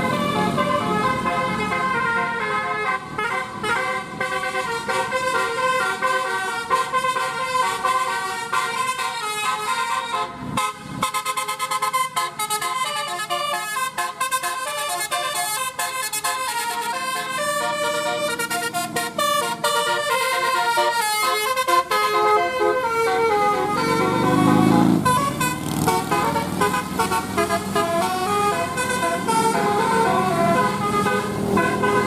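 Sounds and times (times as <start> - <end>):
bus engine rumble: 0.0 - 32.0
bus horn playing a fast tune: 0.0 - 32.0.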